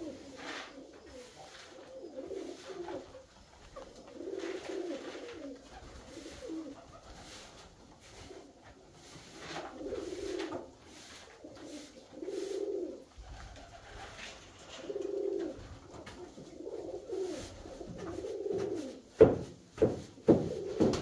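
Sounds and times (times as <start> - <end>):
pigeons cooing: 0.0 - 19.2, 20.3 - 21.0.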